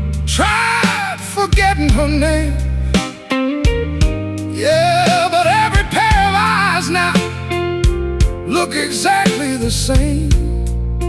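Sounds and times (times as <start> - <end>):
lead guitar bending notes: 0.0 - 10.3
bass backing: 0.0 - 11.0.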